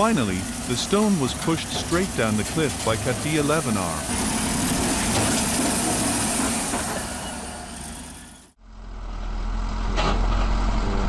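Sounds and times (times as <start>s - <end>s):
bulldozer diesel engine: 0.0s - 11.0s
high engine whine: 0.0s - 11.0s.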